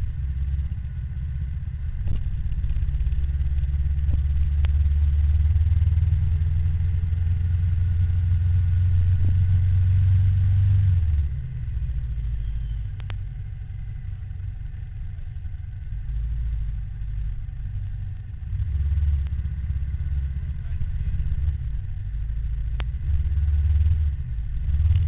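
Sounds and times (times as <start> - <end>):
vehicle and road rumble: 0.0 - 25.0.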